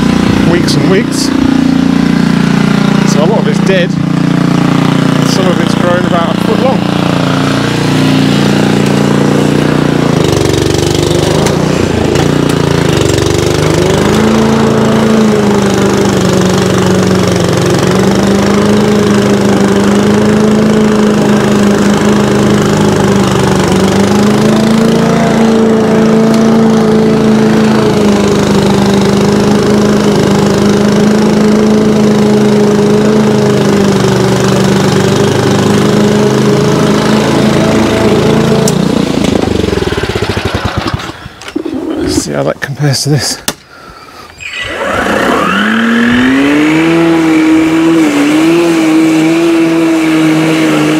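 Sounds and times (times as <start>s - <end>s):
lawn mower engine cutting grass: 0.0s - 43.2s, 44.4s - 50.9s.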